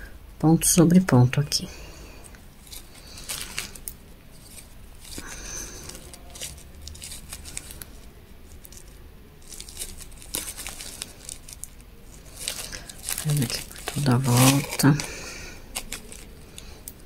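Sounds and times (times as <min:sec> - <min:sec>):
crochet hook rustling yarn: 0:01.4 - 0:17.0
scratchy scrapes: 0:02.6 - 0:16.9.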